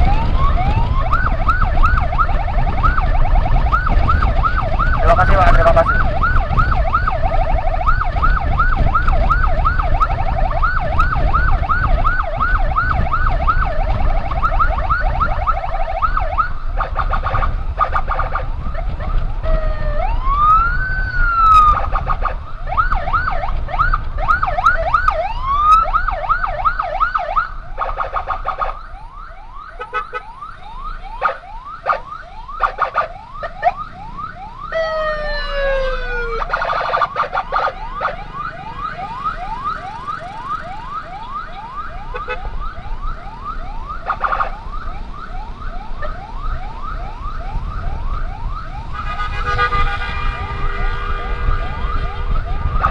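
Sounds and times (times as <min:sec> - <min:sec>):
electronic siren yelping and wailing: 0:00.0 - 0:52.9
low rumble of engine and wind: 0:00.0 - 0:52.9.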